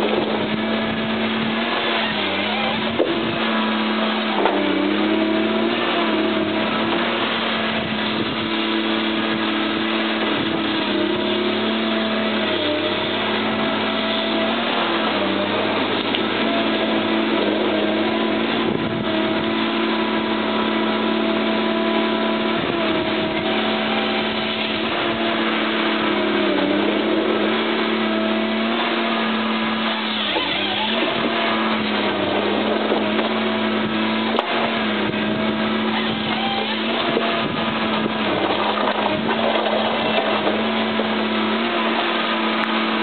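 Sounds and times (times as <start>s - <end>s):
harvester diesel engine running: 0.0s - 43.0s.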